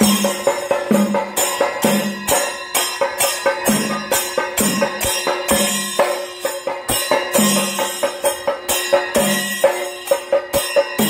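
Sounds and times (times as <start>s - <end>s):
drums beaten fast: 0.0s - 11.0s
hand cymbals clashing: 0.0s - 11.0s.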